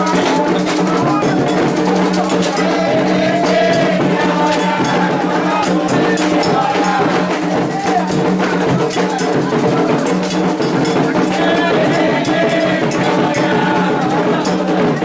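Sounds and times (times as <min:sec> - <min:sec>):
hand drums: 0:00.0 - 0:15.0
struck bell: 0:00.0 - 0:15.0
voices singing a chant: 0:00.0 - 0:15.0.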